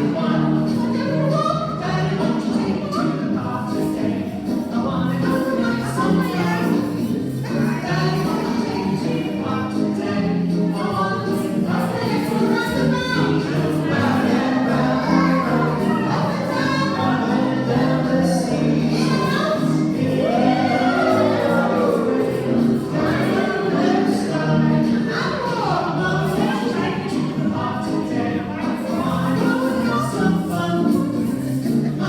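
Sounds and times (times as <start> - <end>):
group of voices singing: 0.0 - 32.0
music: 0.0 - 32.0.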